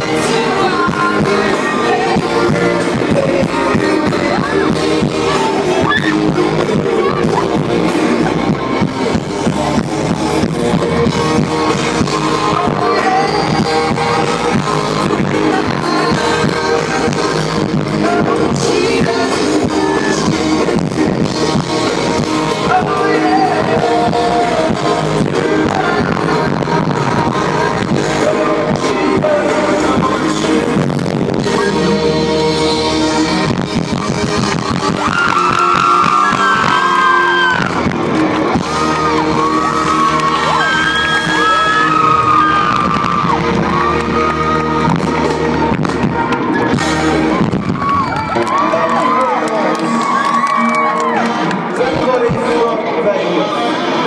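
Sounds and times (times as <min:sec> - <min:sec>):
person singing: 0:00.0 - 0:47.4
pop-rock band playing: 0:00.0 - 0:54.0.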